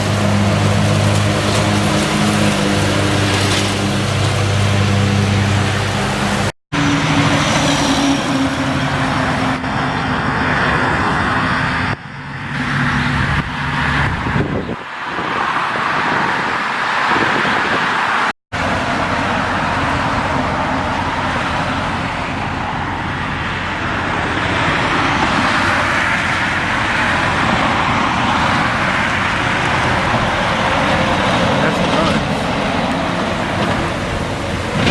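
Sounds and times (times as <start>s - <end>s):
engine running: 0.0s - 14.8s, 18.6s - 34.9s
traffic driving past: 0.0s - 34.9s
tyre and road noise: 0.0s - 34.9s.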